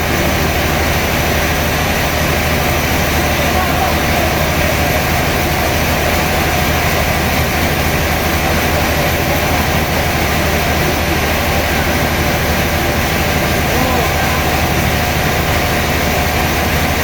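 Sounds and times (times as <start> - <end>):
sawmill machinery drone: 0.0 - 17.0.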